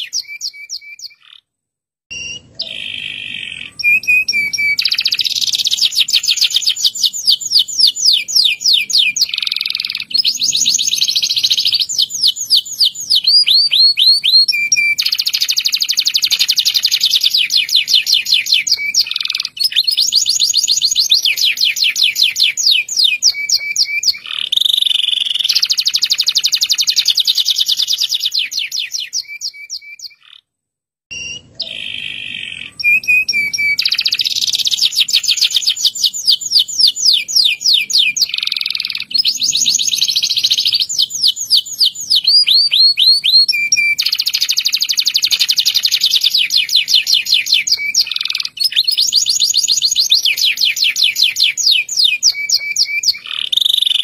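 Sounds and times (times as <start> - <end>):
canary singing trills: 0.0 - 1.5, 2.1 - 30.5, 31.1 - 54.0.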